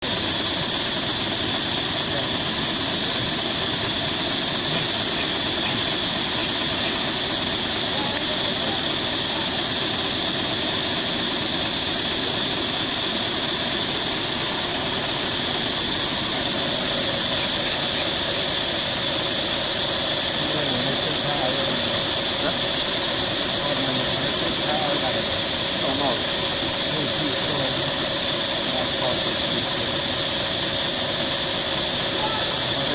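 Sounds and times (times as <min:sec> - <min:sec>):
cicadas droning: 0:00.0 - 0:32.9
faint voices: 0:01.4 - 0:32.9.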